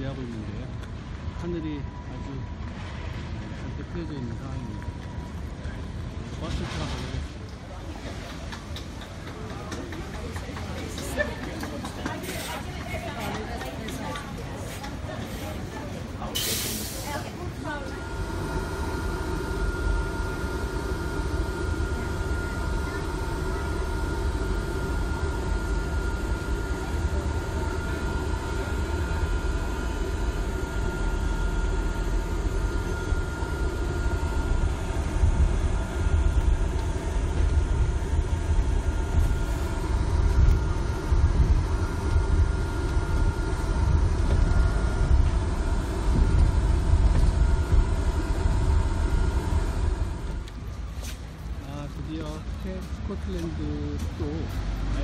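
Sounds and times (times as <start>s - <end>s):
faint whine: 0.0s - 8.3s, 14.4s - 54.0s
bus engine and road rumble: 0.0s - 55.0s.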